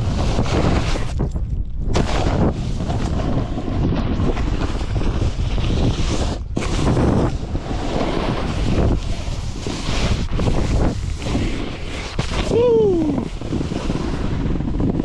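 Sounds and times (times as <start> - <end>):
snowboard sliding over snow: 0.0 - 15.0
wind buffeting microphone: 0.0 - 15.0.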